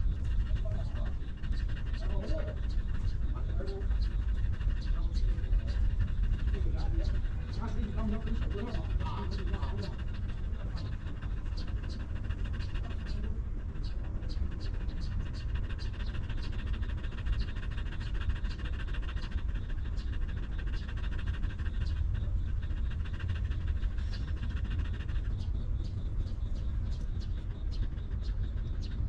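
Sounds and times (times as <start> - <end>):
dog panting: 0.0 - 29.0.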